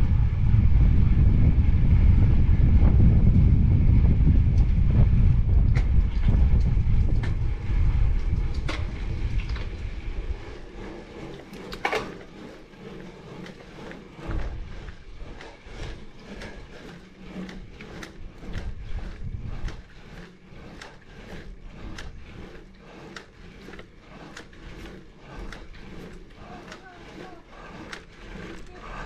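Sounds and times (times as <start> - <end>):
wind buffeting microphone: 0.0 - 29.0
bike clicks and ticks: 4.2 - 29.0.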